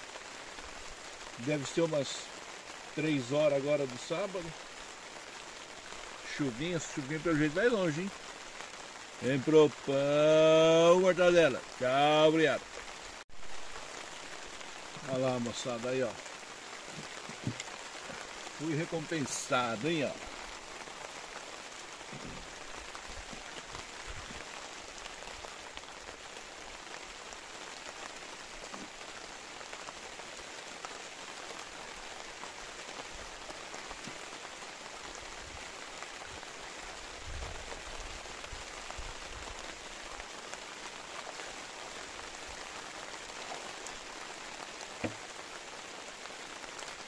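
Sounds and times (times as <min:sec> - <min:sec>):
rain falling on water: 0:00.0 - 0:47.0.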